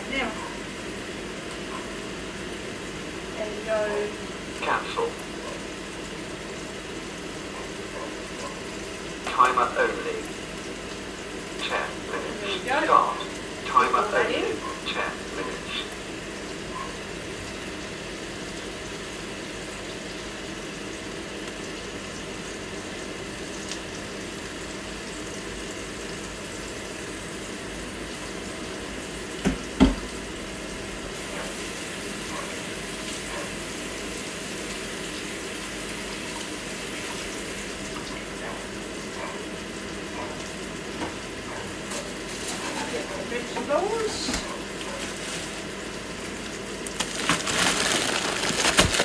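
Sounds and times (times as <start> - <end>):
microwave oven humming: 0.0 - 49.0.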